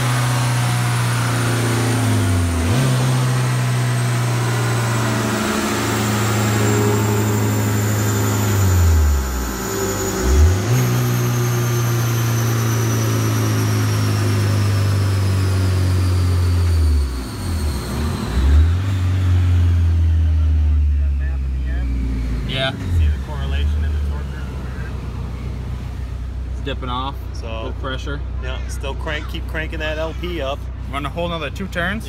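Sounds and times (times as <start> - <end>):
turbocharged car engine running: 0.0 - 32.0.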